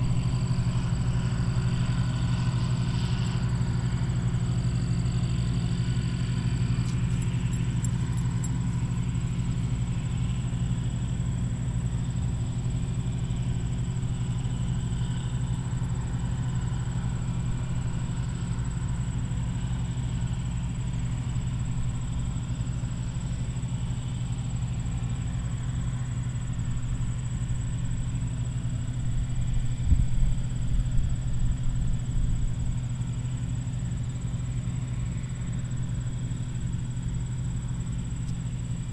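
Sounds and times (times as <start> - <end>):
combine diesel engine drone: 0.0 - 38.9.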